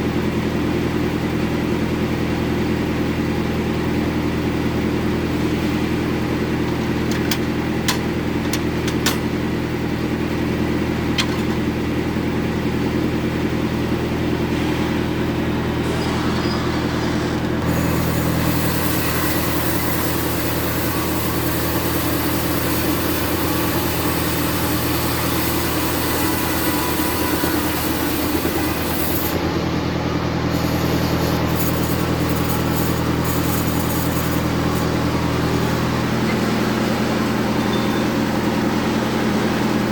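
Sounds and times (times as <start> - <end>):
band saw cutting a log: 4.4 - 10.2, 13.1 - 39.9.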